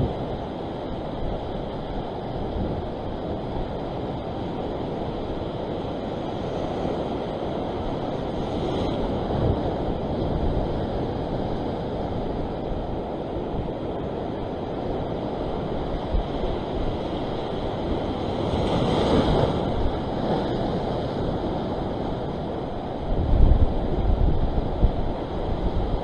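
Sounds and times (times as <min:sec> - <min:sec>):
ocean waves breaking on rocks: 0:00.0 - 0:26.0
wind buffeting microphone: 0:00.0 - 0:26.0.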